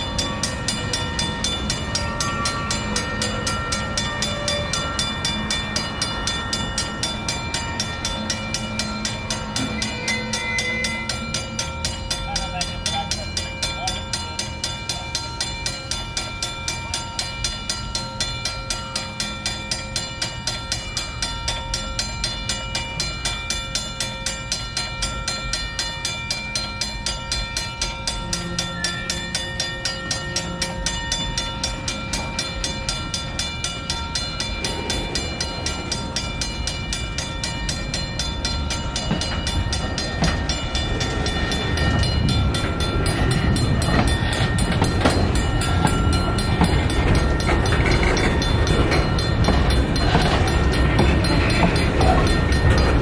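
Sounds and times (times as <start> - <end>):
freight train wheels rumbling: 0.0 - 53.0
railroad crossing bell ringing: 0.0 - 53.0.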